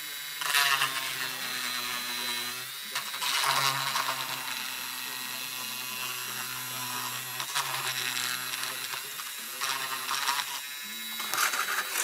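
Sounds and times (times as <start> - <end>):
rotary tool grinding plastic: 0.0 - 12.0
rotary tool motor hum: 0.0 - 12.0.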